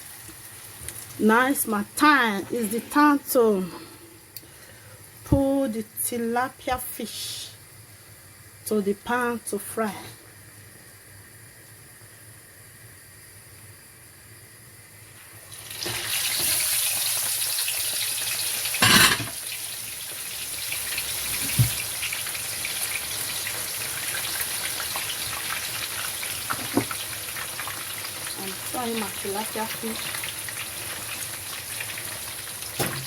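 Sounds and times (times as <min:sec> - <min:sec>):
fish sizzling in hot oil: 0:00.0 - 0:02.7, 0:09.1 - 0:33.0.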